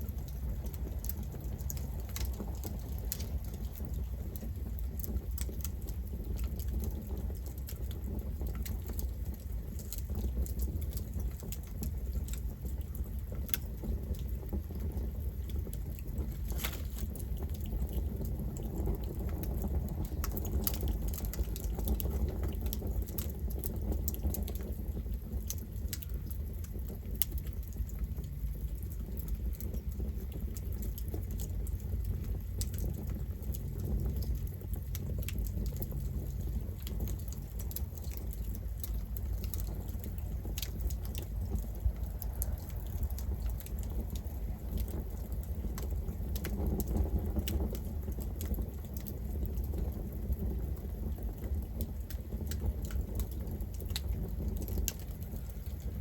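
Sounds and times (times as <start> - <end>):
burning wood crackling and popping: 0.0 - 56.0
campfire flame rumble: 0.0 - 56.0.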